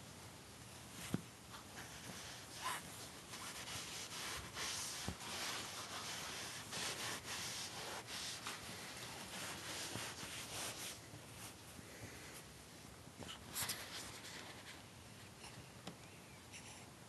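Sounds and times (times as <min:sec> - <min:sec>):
fabric rustling on microphone: 0:00.8 - 0:14.9.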